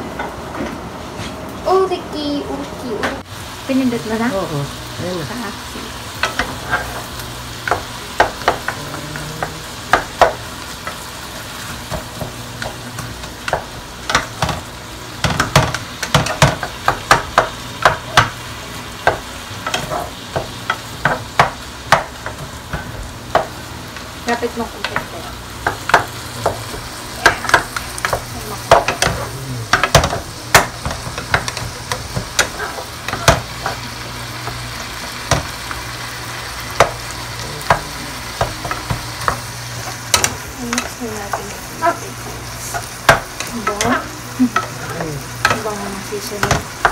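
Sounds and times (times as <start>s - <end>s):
meat sizzling in a pot: 1.0s - 46.9s.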